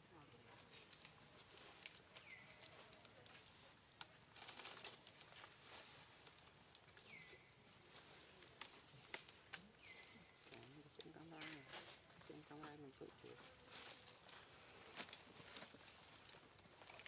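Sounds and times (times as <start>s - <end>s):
faint rustling: 0.4s - 17.0s.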